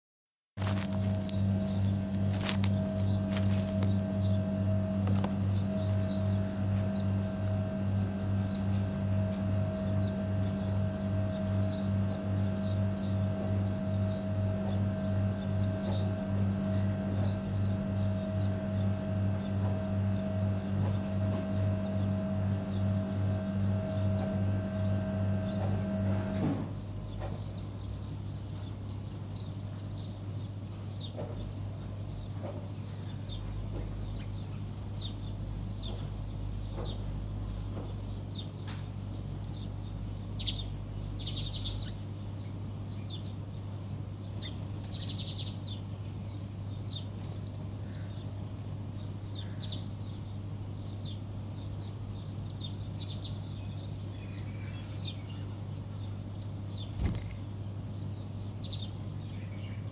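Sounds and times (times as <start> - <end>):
faint low hum: 0.6 - 59.9
loud droning hum: 0.6 - 59.9
small birds chirping: 0.6 - 59.9.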